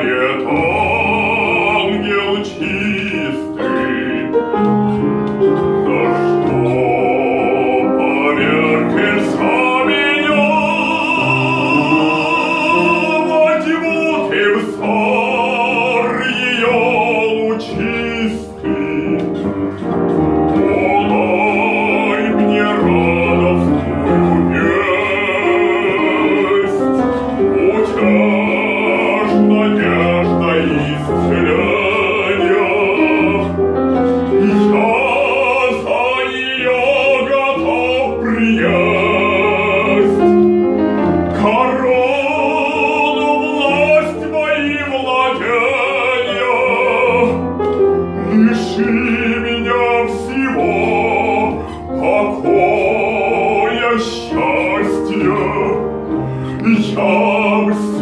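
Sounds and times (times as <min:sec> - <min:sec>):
instrumental accompaniment: 0:00.0 - 0:58.0
operatic singing: 0:00.0 - 0:58.0.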